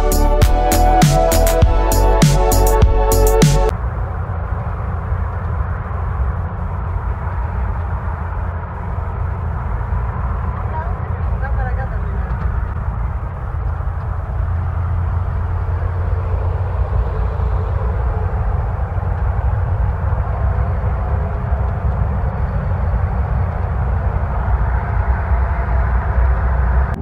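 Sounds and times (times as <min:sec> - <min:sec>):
engine drone: 0:00.0 - 0:27.0
tyre and road noise: 0:00.0 - 0:27.0.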